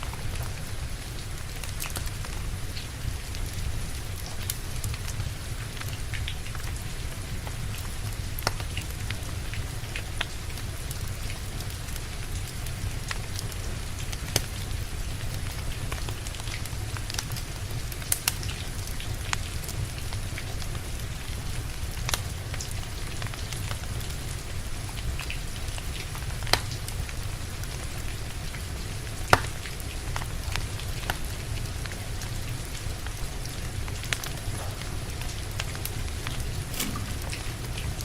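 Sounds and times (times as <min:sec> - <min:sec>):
wood fire crackling: 0:00.0 - 0:27.0, 0:27.7 - 0:38.0
steady rain: 0:00.0 - 0:38.0.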